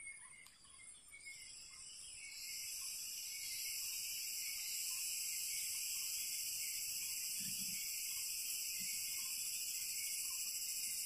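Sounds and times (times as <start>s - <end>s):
insects buzzing: 1.2s - 11.0s.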